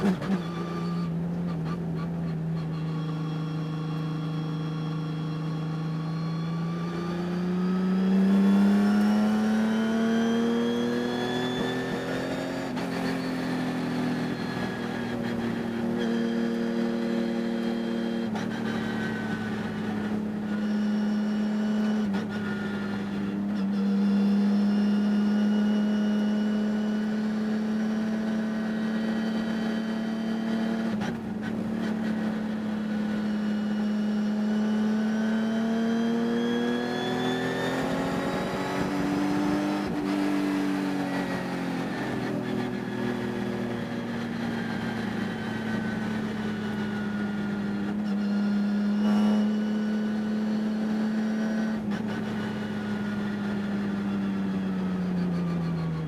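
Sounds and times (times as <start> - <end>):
racing engine revving: 0.0 - 54.0.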